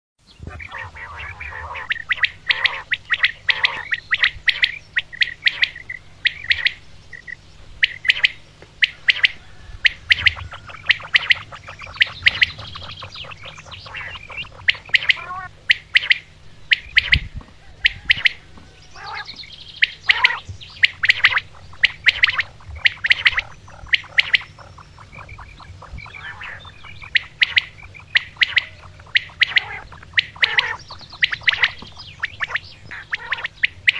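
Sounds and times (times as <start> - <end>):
low steady hum: 0.2 - 33.9
quails calling: 0.2 - 33.9.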